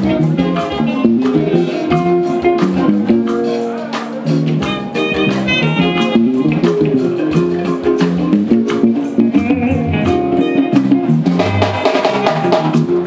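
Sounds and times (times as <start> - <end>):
live guitar band music: 0.0 - 13.0.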